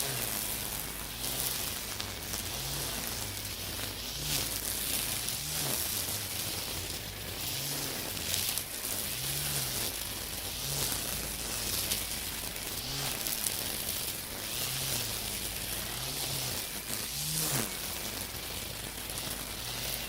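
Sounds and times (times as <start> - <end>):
string trimmer cutting weeds: 0.0 - 20.0.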